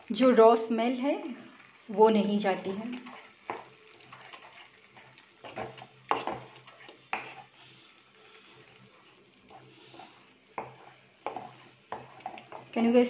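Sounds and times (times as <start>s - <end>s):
spatula stirring thick gravy: 1.5s - 13.0s
spatula scraping pan: 2.5s - 13.0s.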